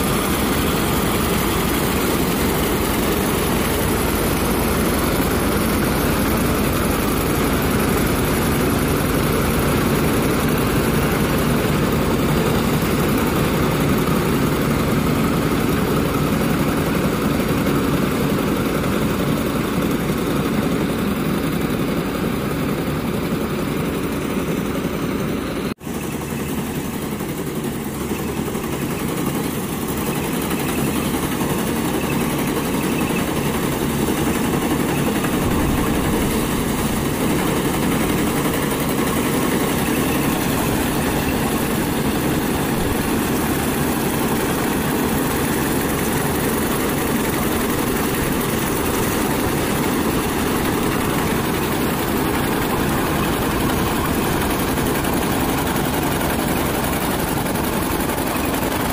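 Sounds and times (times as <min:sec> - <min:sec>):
combine harvester running: 0:00.0 - 0:58.9.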